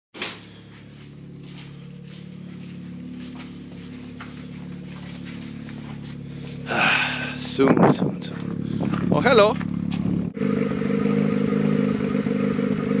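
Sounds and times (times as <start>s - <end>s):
steady mechanical hum: 0.2s - 11.0s.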